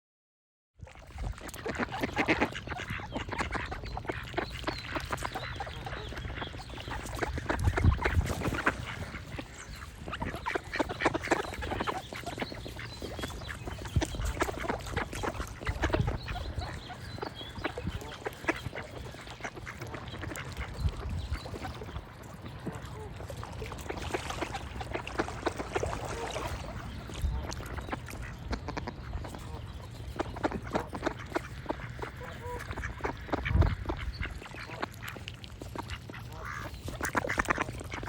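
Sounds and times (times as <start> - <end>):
ducks quacking: 1.0 - 38.0
songbirds singing faintly: 1.2 - 38.0.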